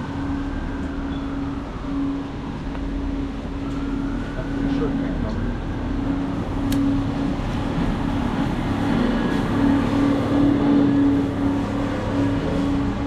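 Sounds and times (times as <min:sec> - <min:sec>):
vehicle engine humming: 0:00.0 - 0:13.0
wet city street noise: 0:00.0 - 0:13.0.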